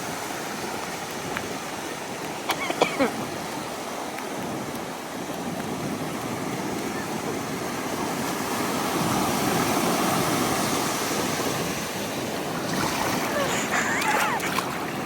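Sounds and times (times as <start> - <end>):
ocean surf breaking: 0.4 - 15.0.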